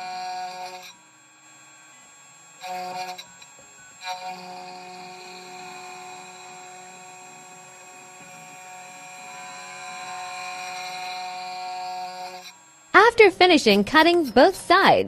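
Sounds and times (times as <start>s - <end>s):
cutting machine spindle whine: 0.0s - 13.3s
milling cutting noise: 0.1s - 15.0s.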